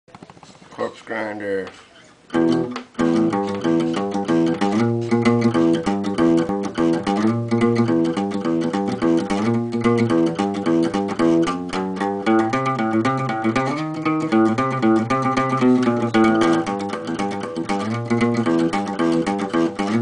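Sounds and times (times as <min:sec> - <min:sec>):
acoustic guitar riff: 0:02.2 - 0:20.0.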